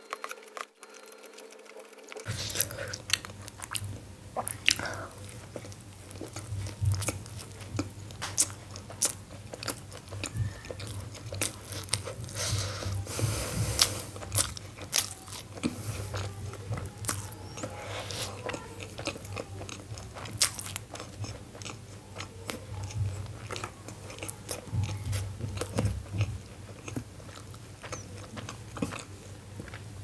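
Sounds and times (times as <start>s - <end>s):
chewing mouth clicks and smacks: 2.2s - 12.6s, 13.8s - 29.9s.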